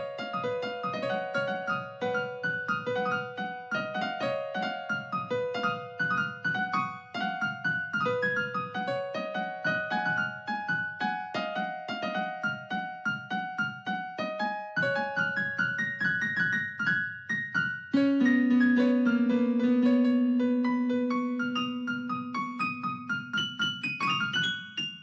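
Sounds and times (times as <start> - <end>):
soft piano playing: 0.0 - 25.0.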